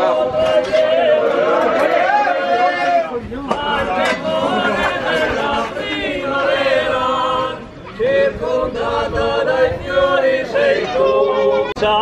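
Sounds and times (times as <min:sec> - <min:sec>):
male choir singing a cappella: 0:00.0 - 0:12.0.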